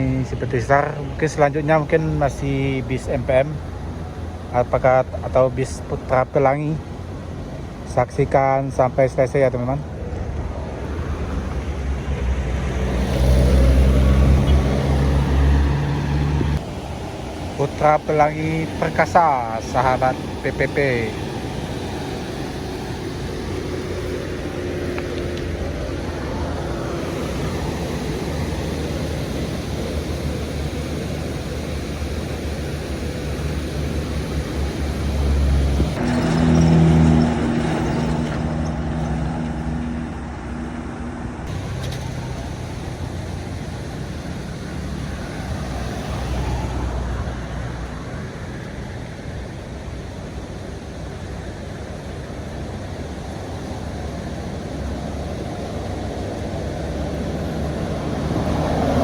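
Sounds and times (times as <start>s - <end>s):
bus diesel engine passing: 0.0s - 59.0s.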